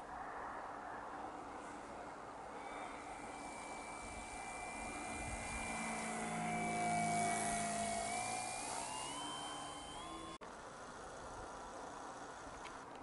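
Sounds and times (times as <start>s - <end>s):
model aircraft motor droning: 1.3s - 13.0s.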